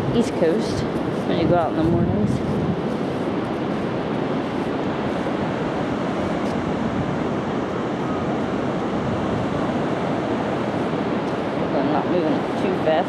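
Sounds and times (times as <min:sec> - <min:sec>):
surf waves breaking: 0:00.0 - 0:13.0
wind on microphone: 0:00.0 - 0:13.0.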